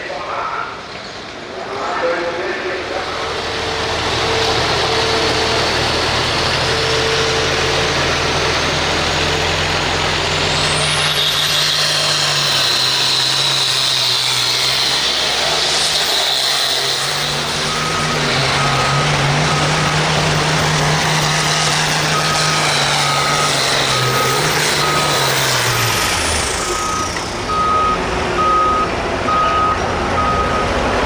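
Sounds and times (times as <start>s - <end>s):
diesel tractor engine drone: 0.3s - 31.0s
turbo whine: 2.8s - 30.7s.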